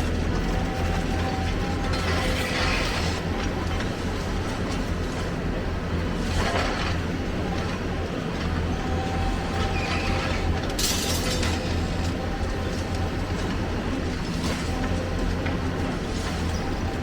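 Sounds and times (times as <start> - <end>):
diesel machinery engine drone: 0.0 - 17.0.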